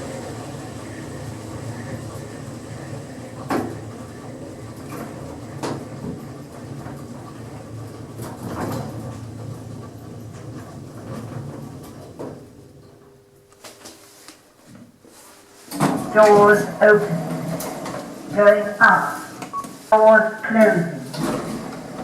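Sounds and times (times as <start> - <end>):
lift car humming in motion: 0.0 - 13.3, 15.6 - 22.0.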